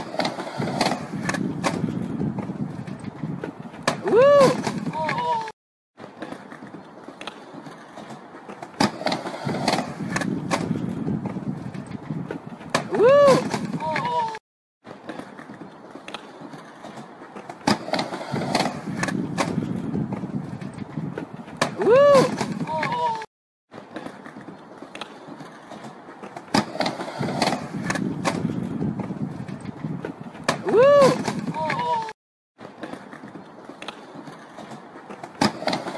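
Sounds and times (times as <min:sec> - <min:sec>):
skateboard clacks: 0:00.0 - 0:35.9
skateboard wheels rolling on wood: 0:00.0 - 0:35.9.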